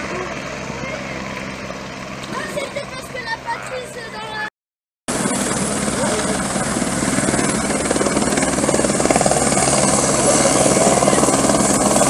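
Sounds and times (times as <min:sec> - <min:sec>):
helicopter rotor beating: 0:00.0 - 0:04.5, 0:05.1 - 0:12.0.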